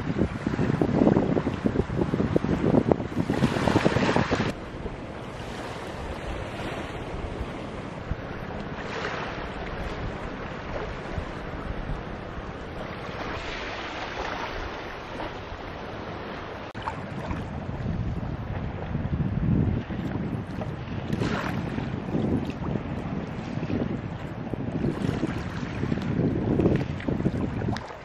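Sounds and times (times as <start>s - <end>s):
waves washing onto a beach: 0.0s - 28.0s
wind noise on microphone: 0.0s - 28.0s.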